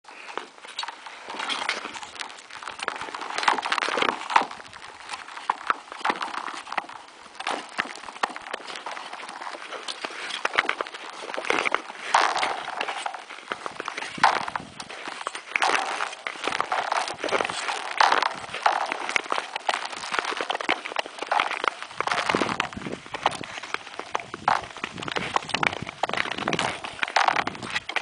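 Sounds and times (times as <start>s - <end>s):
skate strokes swishing on ice: 0.1s - 28.0s
ski pole clicks on ice: 0.3s - 28.0s.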